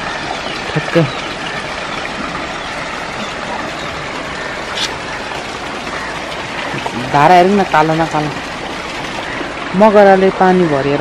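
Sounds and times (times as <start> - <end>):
river rushing in flood: 0.0 - 11.0.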